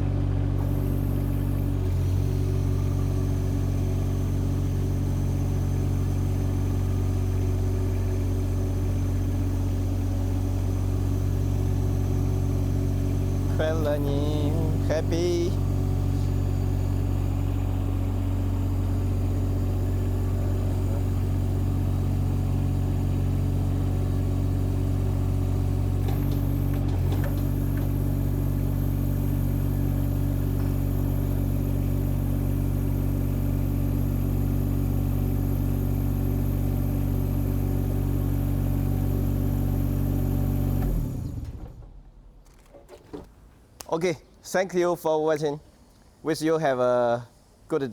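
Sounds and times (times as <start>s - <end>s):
excavator engine running: 0.0s - 43.7s.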